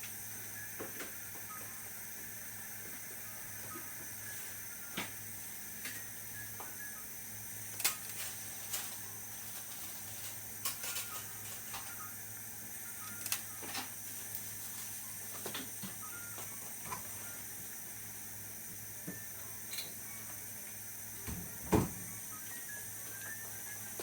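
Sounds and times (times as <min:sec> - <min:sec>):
dental equipment hiss and whine: 0:00.0 - 0:24.0.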